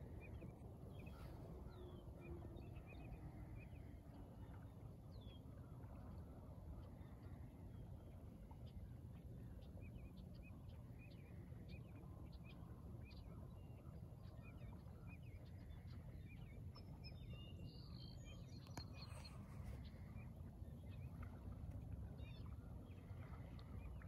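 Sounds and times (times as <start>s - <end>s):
low rumble of wind: 0.0s - 24.0s.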